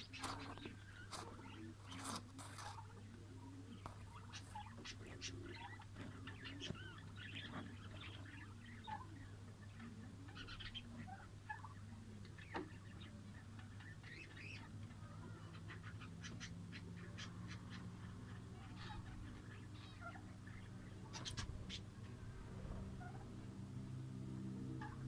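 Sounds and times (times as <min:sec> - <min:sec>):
lovebirds chirping and chattering: 0:00.0 - 0:25.0
steady low hum: 0:00.0 - 0:25.0.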